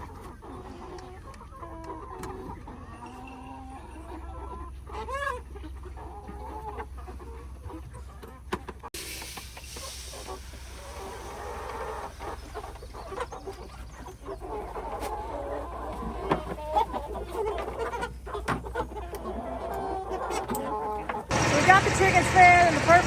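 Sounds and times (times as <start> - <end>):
chickens clucking: 0.0 - 8.9, 9.8 - 23.0.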